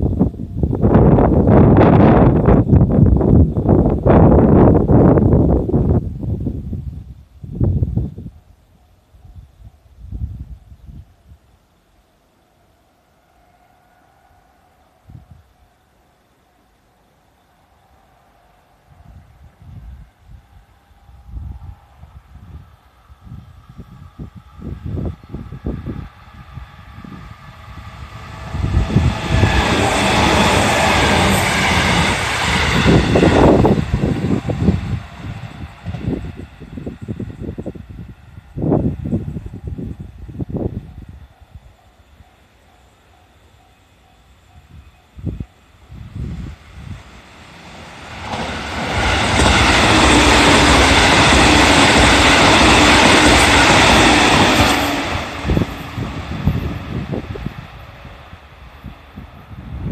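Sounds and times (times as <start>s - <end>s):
electric train passing: 0.0s - 59.9s.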